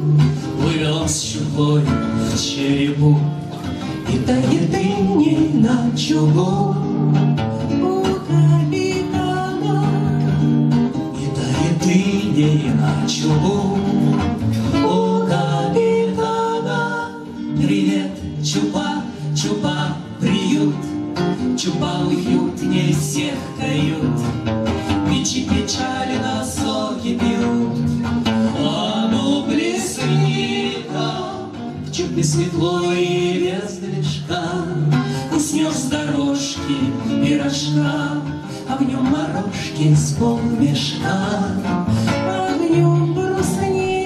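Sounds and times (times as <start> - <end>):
person singing: 0.0 - 10.4, 11.2 - 20.9, 21.5 - 44.0
acoustic guitar strumming: 0.0 - 44.0.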